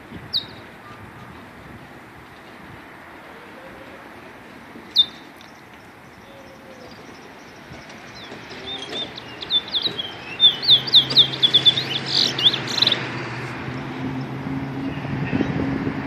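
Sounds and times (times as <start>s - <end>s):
songbird singing: 0.2s - 1.4s, 3.2s - 15.6s.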